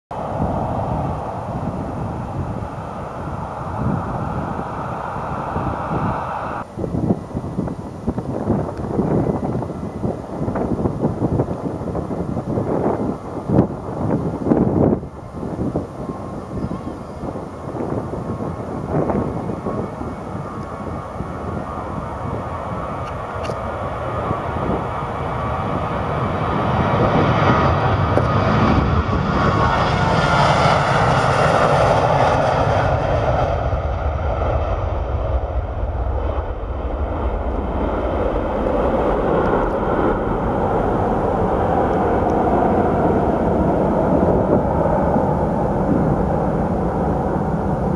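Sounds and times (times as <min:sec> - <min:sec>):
jet engine whine falling in pitch: 0:00.1 - 0:47.9
jet engines at take-off thrust: 0:00.1 - 0:47.9.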